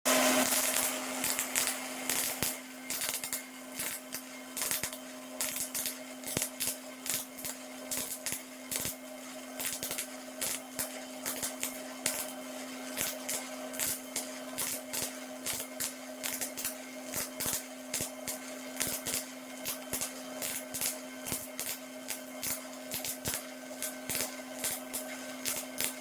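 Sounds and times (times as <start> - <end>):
welding arc crackling and popping: 0.1 - 26.0.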